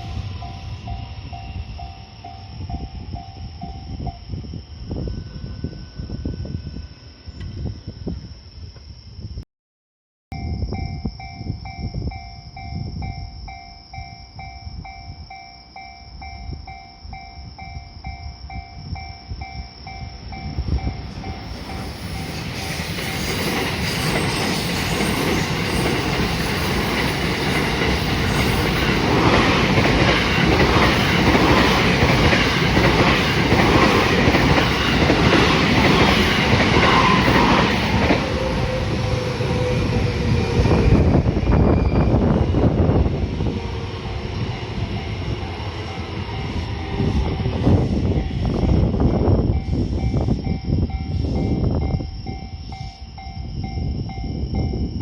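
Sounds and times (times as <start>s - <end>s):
level-crossing warning bell: 0.0s - 4.4s, 10.3s - 43.2s, 44.7s - 55.0s
train wheels rumbling on rails: 0.0s - 8.3s, 16.2s - 55.0s.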